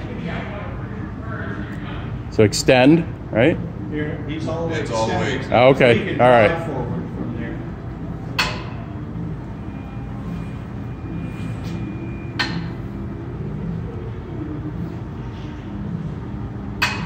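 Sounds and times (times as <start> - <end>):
electric motor and hydraulics hum: 0.0 - 17.0.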